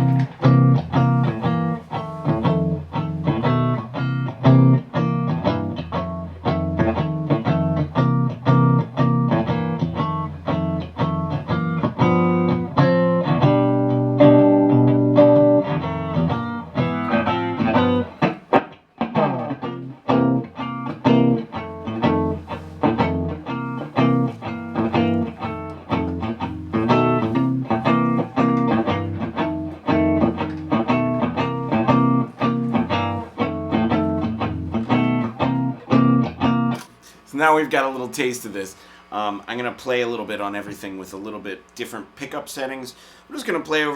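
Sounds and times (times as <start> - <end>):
electric guitar through amplifier: 0.0 - 37.3.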